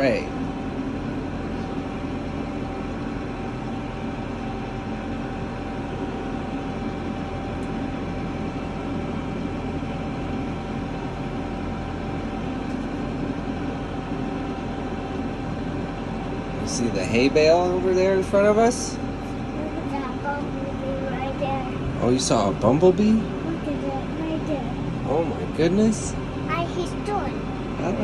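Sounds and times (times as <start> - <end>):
tractor engine drone: 0.0 - 28.0.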